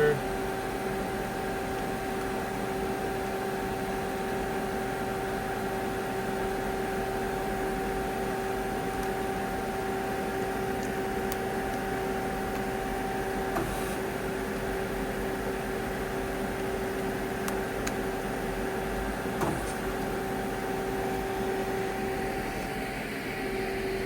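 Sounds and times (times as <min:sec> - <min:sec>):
lathe humming and whining: 0:00.0 - 0:24.0.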